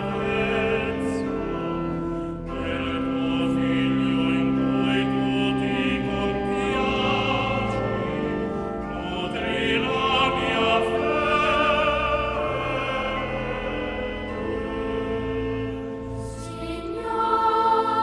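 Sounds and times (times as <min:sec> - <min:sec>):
choral singing: 0:00.0 - 0:01.6, 0:02.5 - 0:18.0.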